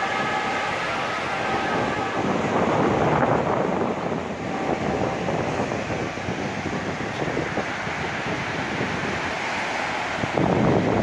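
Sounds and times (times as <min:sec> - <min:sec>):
small waves washing on shore: 0:00.0 - 0:11.0
wind buffeting microphone: 0:00.0 - 0:11.0.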